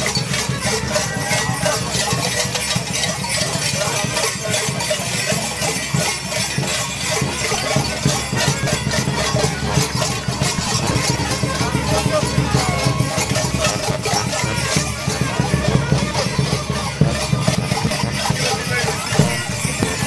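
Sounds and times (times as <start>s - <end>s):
bells jingling on costumes: 0.0s - 20.0s.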